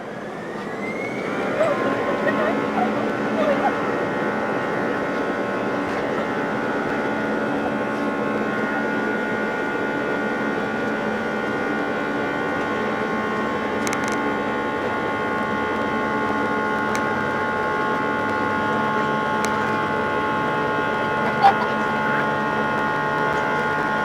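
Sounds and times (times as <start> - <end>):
steady hum tones: 0.0 - 24.0.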